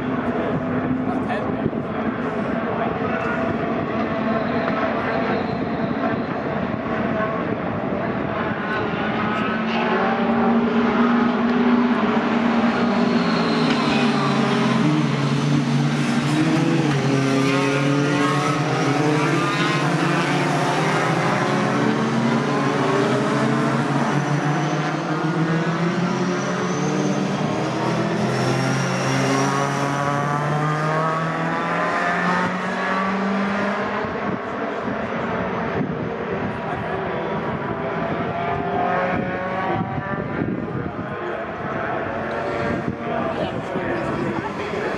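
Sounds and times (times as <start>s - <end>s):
racing truck engines: 0.0s - 44.9s.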